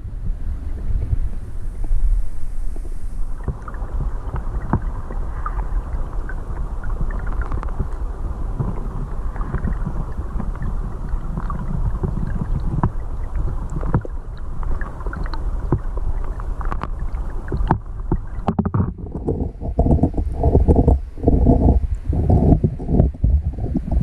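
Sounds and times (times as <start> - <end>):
underwater stream rushing: 0.0 - 24.0.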